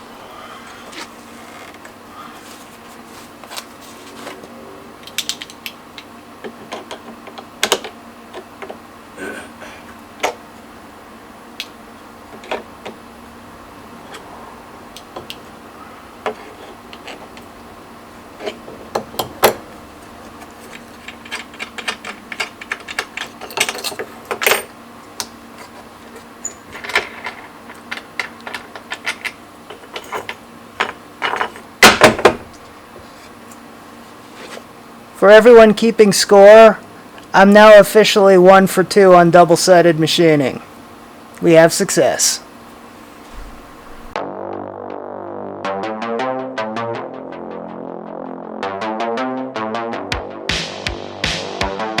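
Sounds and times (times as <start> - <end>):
faint steady hum: 0.0 - 44.2.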